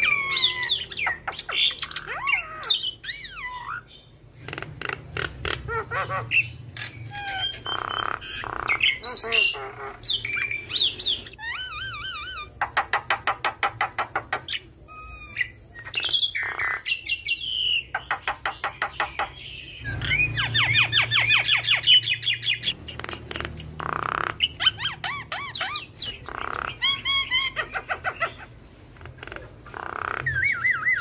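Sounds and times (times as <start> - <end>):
bird singing varied song: 0.0 - 31.0.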